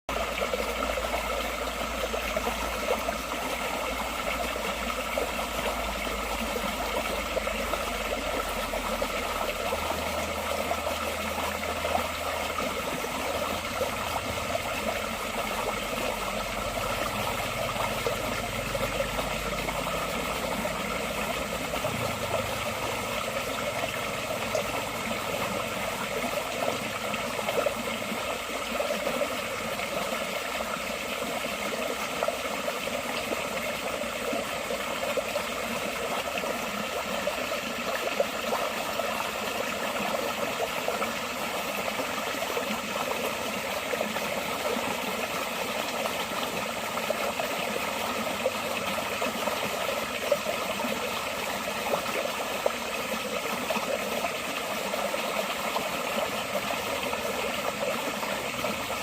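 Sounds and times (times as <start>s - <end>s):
stream flowing: 0.1s - 59.0s.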